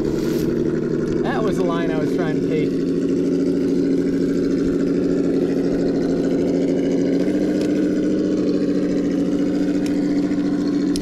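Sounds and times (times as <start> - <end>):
simulated engine rumble from speaker: 0.0 - 11.0.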